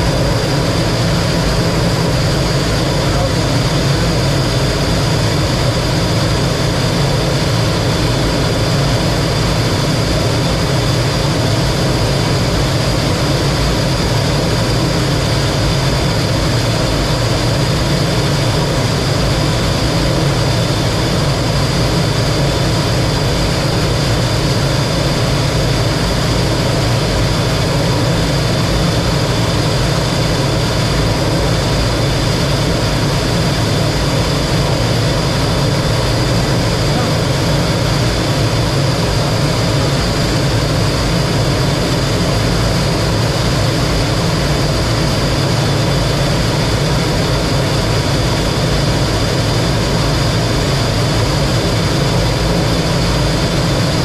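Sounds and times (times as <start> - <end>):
jet engine roar and whine: 0.0 - 54.0.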